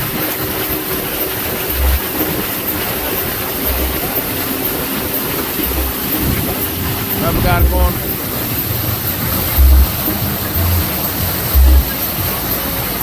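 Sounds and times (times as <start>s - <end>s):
hull thudding on swell: 0.0s - 12.5s
boat engine running: 0.0s - 13.0s
rushing wind and water: 0.0s - 13.0s.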